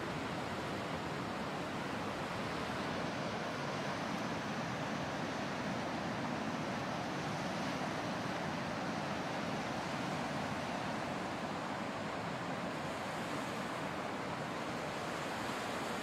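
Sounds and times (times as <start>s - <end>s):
surf rushing on beach: 0.0s - 16.0s.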